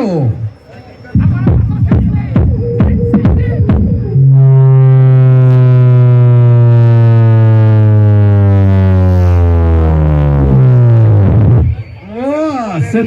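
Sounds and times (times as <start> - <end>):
distorted subwoofer bass tone: 0.0 - 13.0.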